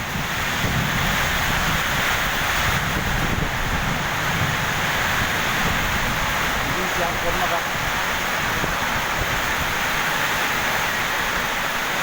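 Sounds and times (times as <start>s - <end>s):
heavy rain hiss: 0.0s - 12.0s
wind gusting on microphone: 0.0s - 12.0s.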